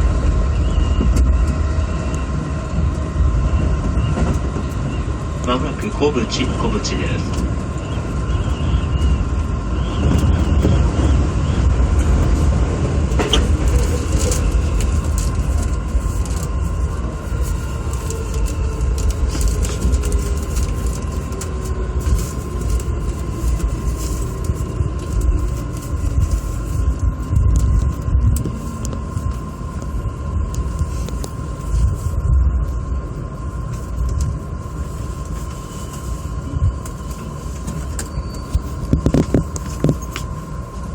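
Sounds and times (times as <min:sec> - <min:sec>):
train wheels rumbling on rail: 0:00.0 - 0:40.9
train whine: 0:00.0 - 0:40.9.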